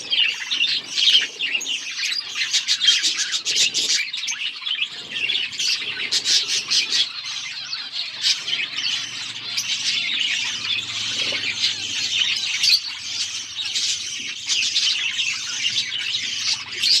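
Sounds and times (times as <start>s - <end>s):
budgerigars chattering and chirping: 0.0s - 17.0s.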